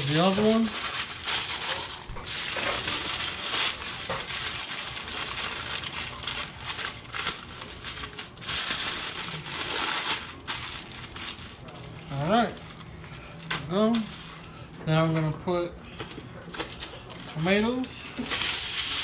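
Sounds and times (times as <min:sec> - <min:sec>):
foil crinkling and crumpling: 0:00.0 - 0:15.1, 0:16.0 - 0:19.0.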